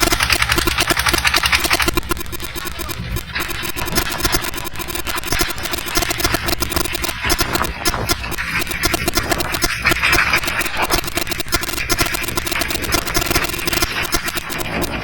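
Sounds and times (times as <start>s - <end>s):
hissing noise: 0.0s - 15.0s
vehicle engine running: 0.0s - 15.0s.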